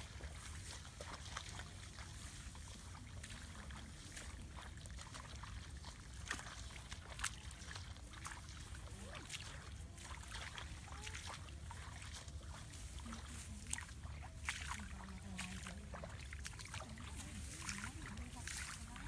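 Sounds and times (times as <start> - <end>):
grass rustling under footsteps: 0.0 - 19.0.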